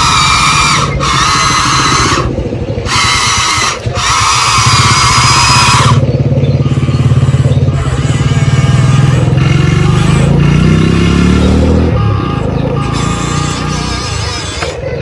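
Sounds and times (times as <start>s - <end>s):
pulsing engine-like rumble: 0.0s - 15.0s.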